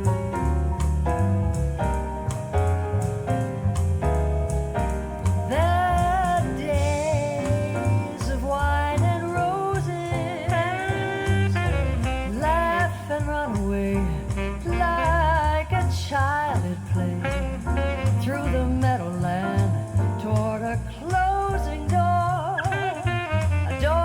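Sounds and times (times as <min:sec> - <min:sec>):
piano chords: 0:00.0 - 0:24.0
stepping bass line: 0:00.0 - 0:24.0.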